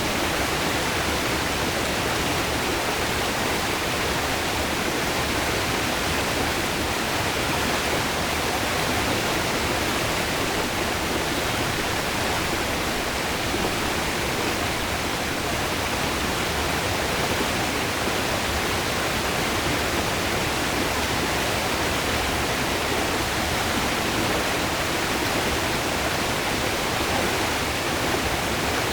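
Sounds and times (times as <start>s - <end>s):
river water rushing over rocks: 0.0s - 28.9s.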